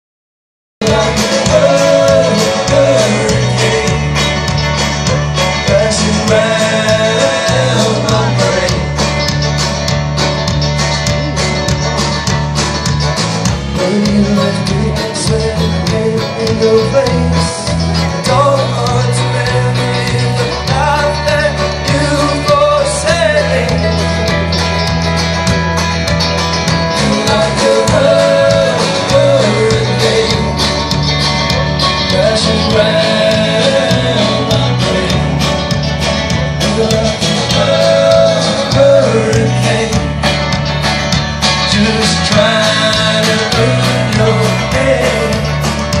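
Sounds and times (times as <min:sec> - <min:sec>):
person singing lead vocal: 0:00.8 - 0:09.6, 0:13.6 - 0:24.9, 0:26.8 - 0:40.7, 0:41.4 - 0:46.0
folk-rock band playing: 0:00.8 - 0:46.0.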